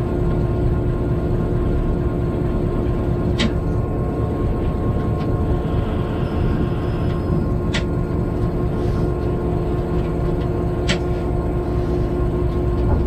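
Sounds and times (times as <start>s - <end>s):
freight train rumble in cab: 0.0s - 13.0s.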